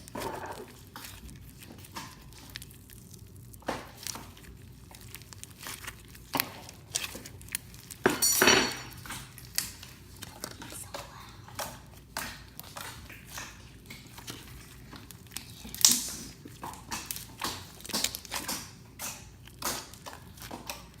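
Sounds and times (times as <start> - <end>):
slime squishing and popping: 0.0 - 8.2, 8.9 - 21.0.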